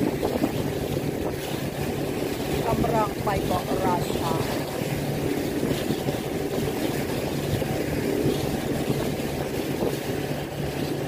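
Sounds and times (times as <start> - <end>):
constant rushing noise: 0.0 - 11.0
yacht engine hum: 0.0 - 11.0.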